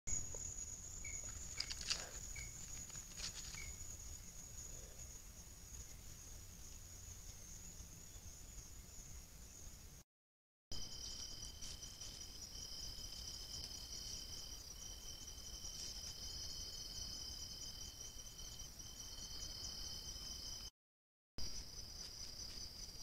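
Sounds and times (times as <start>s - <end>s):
crickets trilling: 0.1s - 9.7s, 10.8s - 20.7s
low continuous insect tone: 0.1s - 10.0s, 10.7s - 20.7s, 21.4s - 23.0s.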